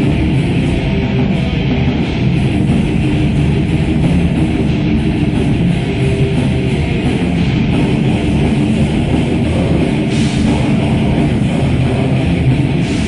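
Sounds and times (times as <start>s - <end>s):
distorted electric guitars: 0.0s - 13.0s
drum kit: 0.0s - 13.0s
heavy metal band playing live: 0.0s - 13.0s.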